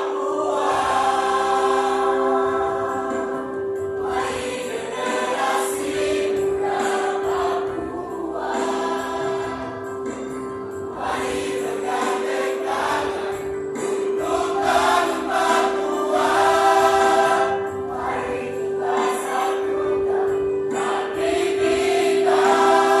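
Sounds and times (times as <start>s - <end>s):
choir singing in parts: 0.0s - 23.0s.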